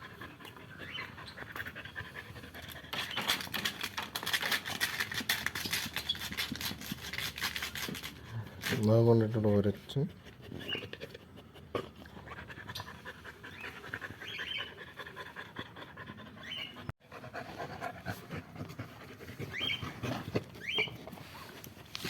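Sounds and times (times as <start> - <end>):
dog panting: 0.0 - 5.9, 9.7 - 22.0.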